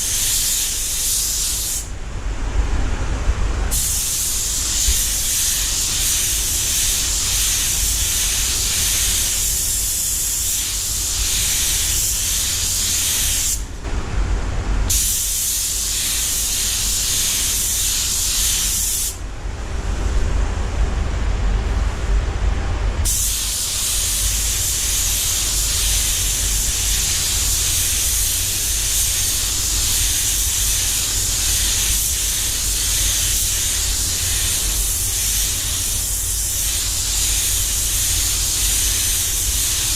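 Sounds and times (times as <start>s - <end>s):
spray gun hissing: 0.0s - 1.9s, 3.7s - 13.8s, 14.9s - 19.2s, 23.0s - 39.9s
steady low rumble: 1.9s - 39.9s.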